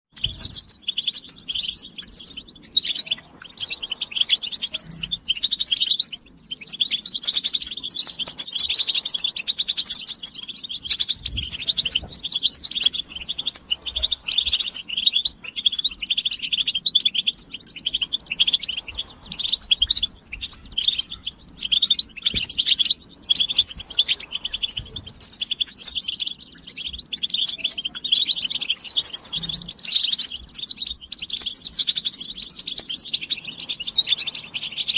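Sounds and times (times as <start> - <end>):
goldfinch twittering song: 0.1 - 34.9.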